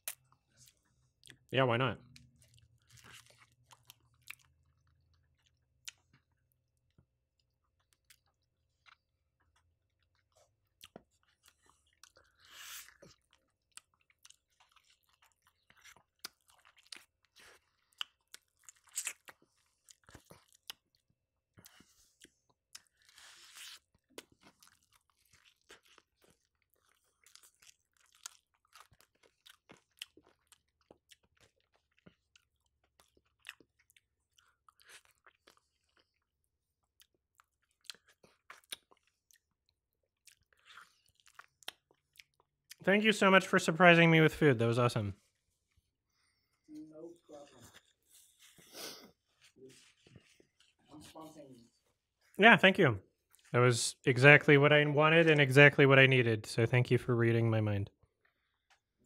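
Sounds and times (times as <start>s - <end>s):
chewing and crunching fried chicken: 0.0s - 44.1s, 45.1s - 52.4s, 53.0s - 53.6s, 57.8s - 59.0s.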